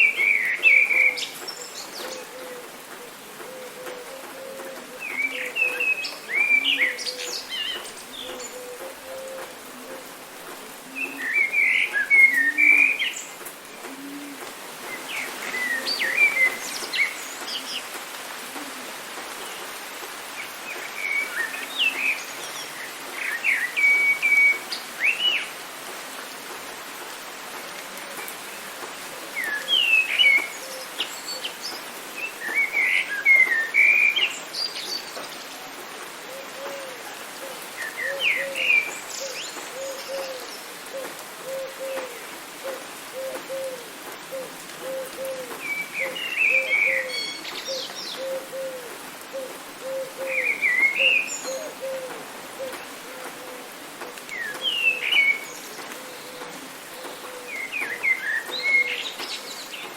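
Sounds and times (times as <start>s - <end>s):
songbirds chirping and singing: 0.0s - 18.4s, 28.0s - 59.9s
rain hiss: 0.0s - 59.9s.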